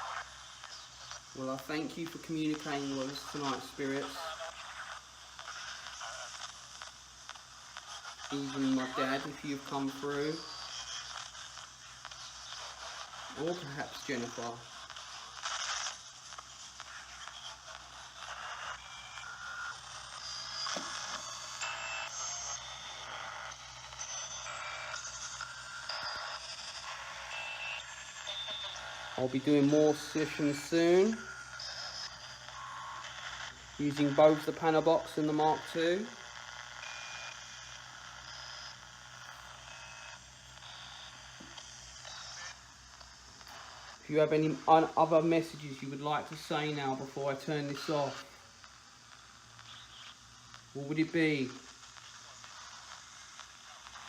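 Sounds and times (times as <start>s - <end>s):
choppy radio static: 0.0s - 54.0s.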